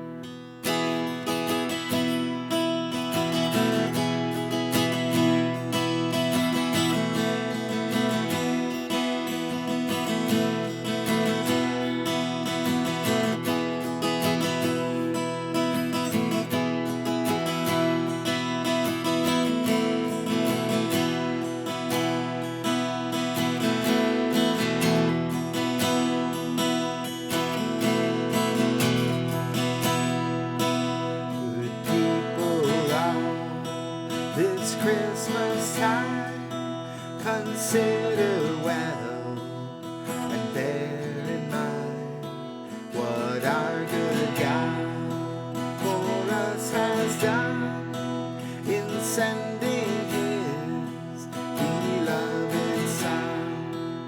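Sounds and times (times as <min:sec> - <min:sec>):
acoustic guitar strummed and picked: 0:00.0 - 0:54.0.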